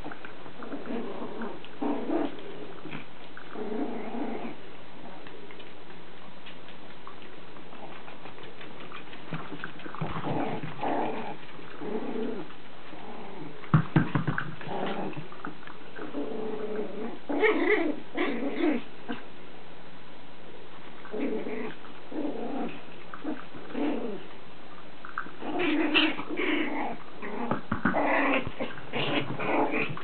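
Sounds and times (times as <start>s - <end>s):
puppy growling in play: 0.0s - 5.7s, 7.6s - 19.3s, 21.0s - 24.4s, 25.0s - 30.0s.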